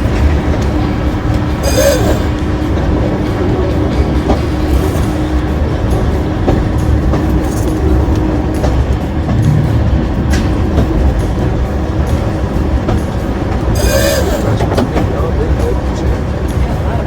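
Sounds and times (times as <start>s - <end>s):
railway car rumbling: 0.0s - 17.0s
wheel clatter: 0.0s - 17.0s.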